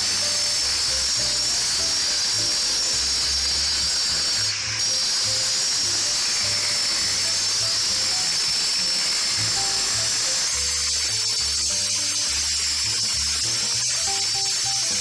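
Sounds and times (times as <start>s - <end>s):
background music: 0.0s - 15.0s
power cutter grinding concrete: 0.0s - 15.0s.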